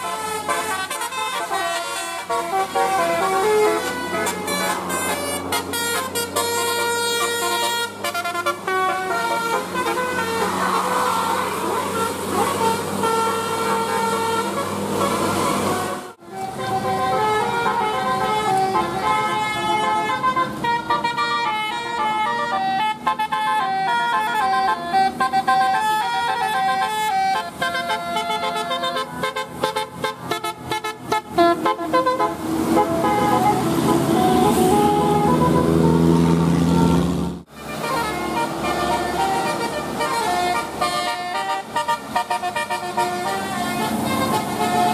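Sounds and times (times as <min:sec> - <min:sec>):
multi-trumpet air horn melody: 0:00.0 - 0:44.9
vehicle running noise: 0:00.0 - 0:44.9.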